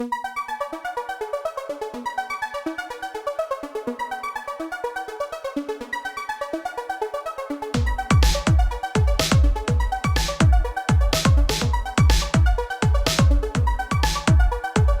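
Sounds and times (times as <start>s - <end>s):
electronic music with synthesizer: 0.0s - 15.0s.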